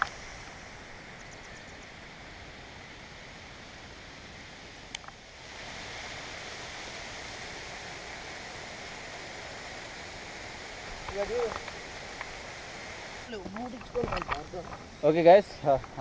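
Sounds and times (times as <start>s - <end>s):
waterfall rushing: 1.9s - 16.0s.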